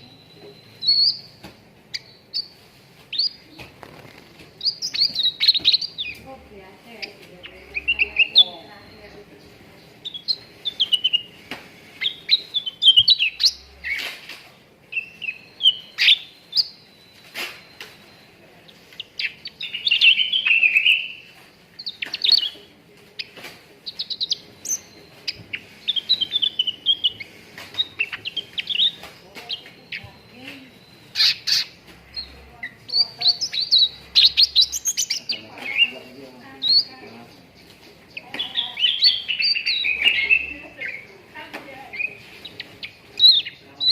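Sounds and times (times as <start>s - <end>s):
birds chirping and whistling: 0.0s - 43.9s.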